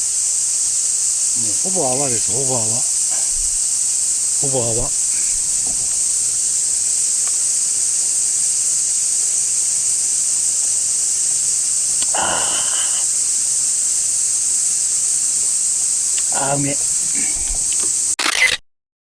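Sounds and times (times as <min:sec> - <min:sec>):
cicadas chorus: 0:00.0 - 0:18.5.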